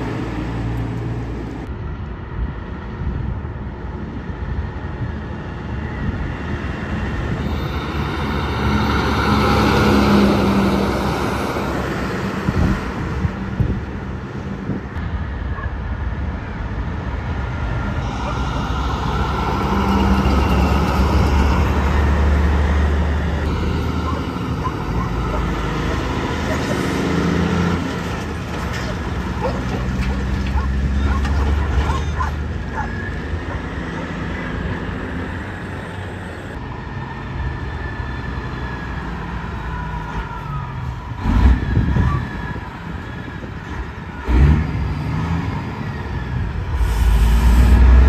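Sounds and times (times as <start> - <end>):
trucks driving past: 0.0 - 48.0.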